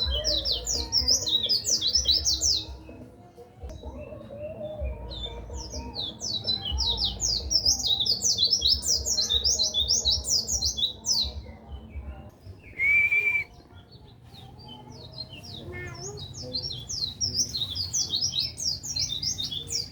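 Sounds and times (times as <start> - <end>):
bird twittering song: 0.0 - 19.9.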